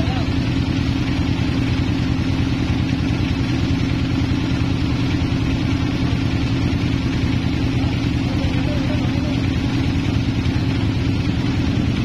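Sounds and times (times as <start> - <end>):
sawmill machinery drone: 0.0 - 12.0.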